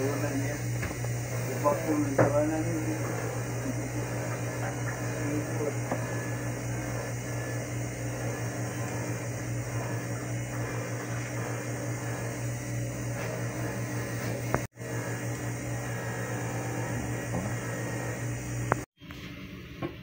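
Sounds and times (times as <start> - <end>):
electrical hum with fan whirr: 0.0 - 20.0.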